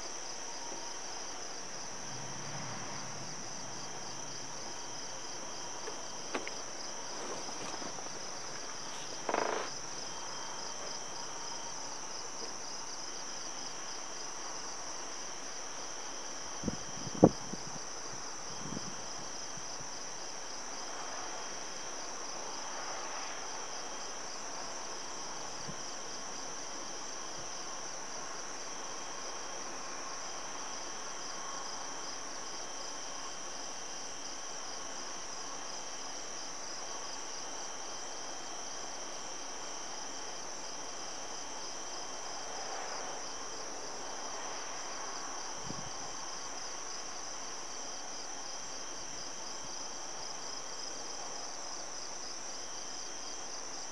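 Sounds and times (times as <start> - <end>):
crickets trilling: 0.0 - 53.9
lower insect trill: 0.0 - 53.9.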